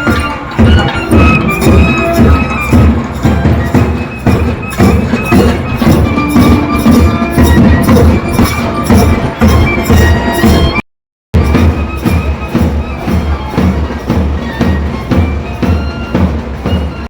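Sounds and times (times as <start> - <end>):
fast drum strokes: 0.0 - 10.8, 11.4 - 17.0
held wind instrument tones: 0.0 - 10.8, 11.4 - 17.0.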